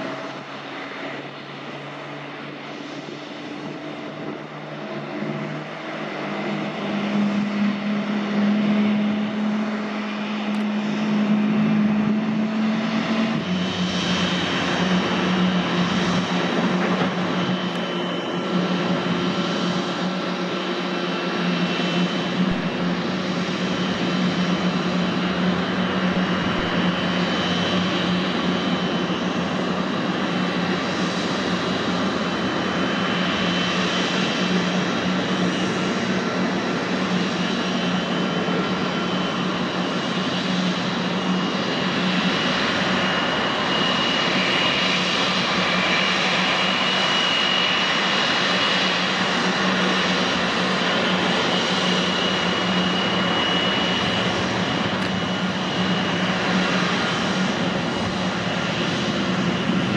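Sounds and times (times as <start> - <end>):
aircraft engines droning: 0.0 - 59.9.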